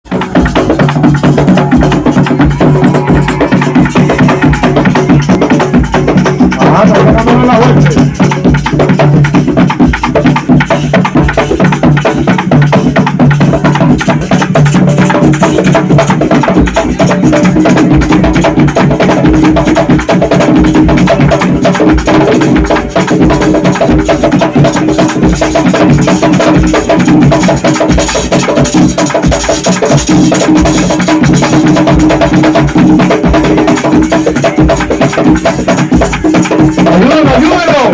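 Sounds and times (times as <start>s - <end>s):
drums playing fast rhythm: 0.0s - 37.9s.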